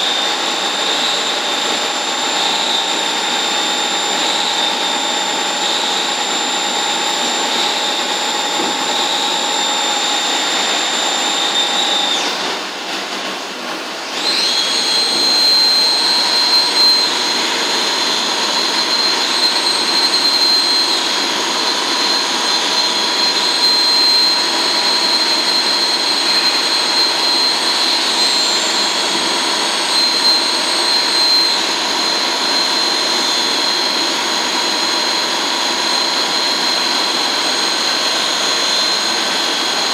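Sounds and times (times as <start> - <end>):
lathe whining: 0.0 - 39.9.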